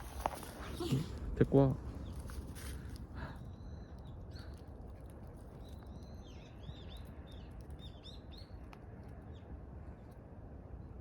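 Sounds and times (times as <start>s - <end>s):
low outdoor background noise: 0.0s - 11.0s
small birds chirping: 0.4s - 11.0s.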